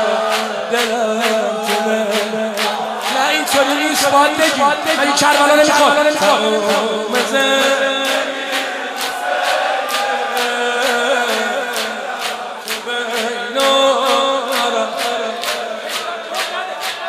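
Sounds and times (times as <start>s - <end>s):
men chanting a lament: 0.0s - 17.0s
rhythmic chest-beating: 0.0s - 17.0s.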